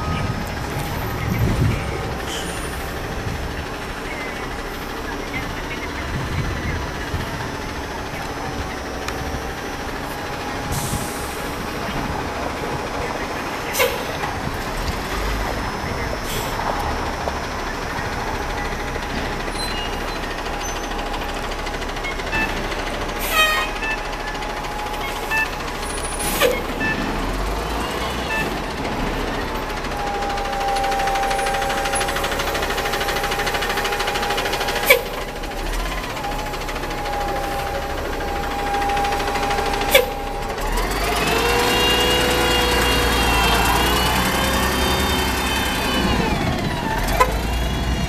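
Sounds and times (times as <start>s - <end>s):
bus accelerating with rising whine: 0.0s - 48.0s
bus engine idling: 0.0s - 48.0s.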